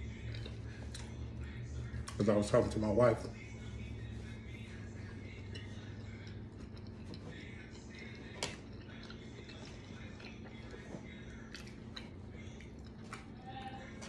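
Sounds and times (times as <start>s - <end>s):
person chewing: 0.0s - 2.3s, 3.3s - 14.0s
low steady hum: 0.0s - 14.0s.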